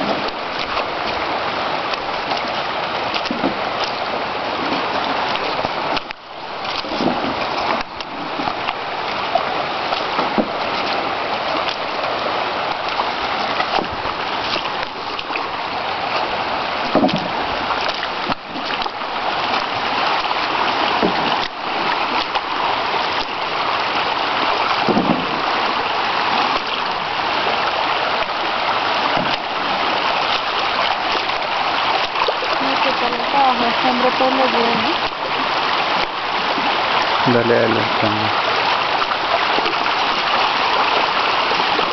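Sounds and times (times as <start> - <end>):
river rushing over stones: 0.0 - 41.9.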